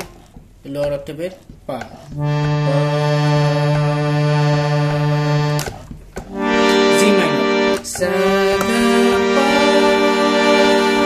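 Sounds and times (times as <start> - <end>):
harmonium chords: 2.1 - 11.0.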